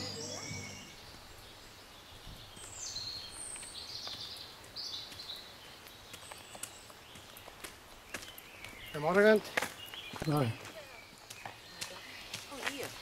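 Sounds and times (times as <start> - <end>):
footsteps on paved path: 0.0 - 13.0
songbirds singing: 0.0 - 13.0.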